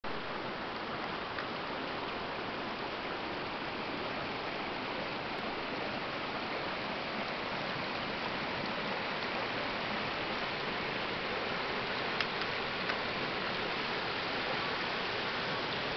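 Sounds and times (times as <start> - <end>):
stream rushing over rocks: 0.0 - 15.9.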